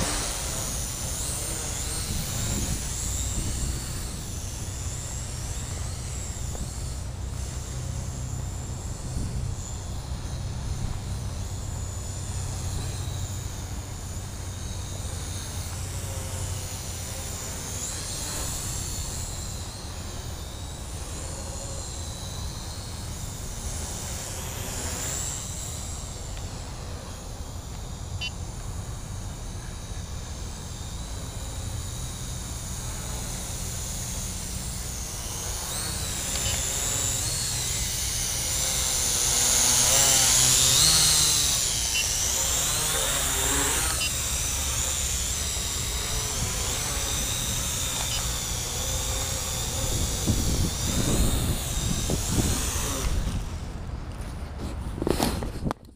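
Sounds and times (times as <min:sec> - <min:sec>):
toy drone motor whine: 0:00.0 - 0:55.9.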